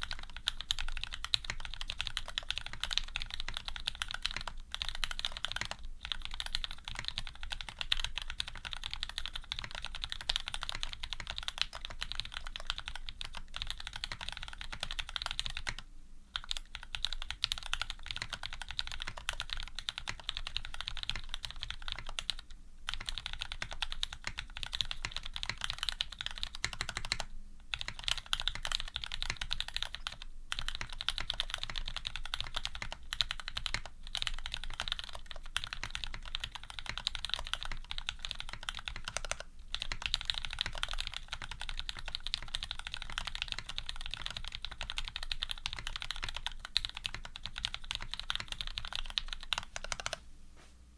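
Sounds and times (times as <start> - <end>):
mechanical keyboard typing: 0.0 - 15.8, 16.4 - 50.2.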